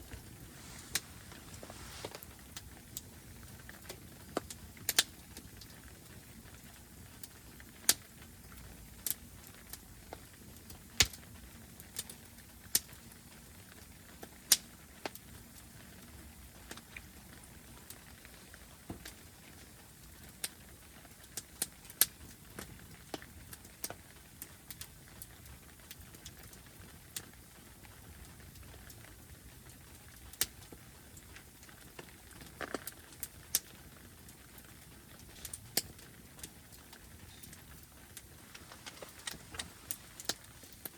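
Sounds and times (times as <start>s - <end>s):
wood fire popping and crackling: 0.0s - 40.9s.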